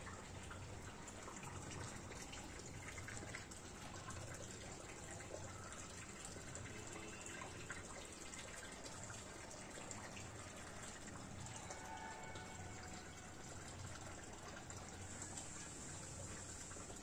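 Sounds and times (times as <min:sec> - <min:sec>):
trickle of running water: 0:00.0 - 0:17.0.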